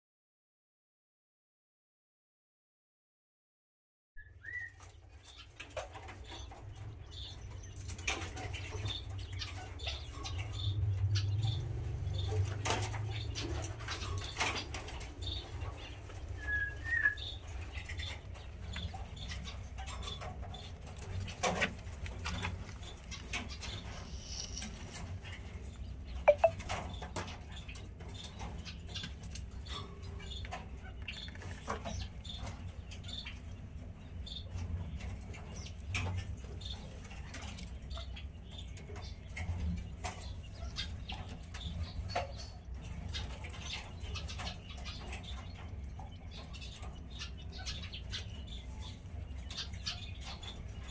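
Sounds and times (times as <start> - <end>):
quail chirping: 4.2 - 50.9
birds rustling: 4.4 - 50.9.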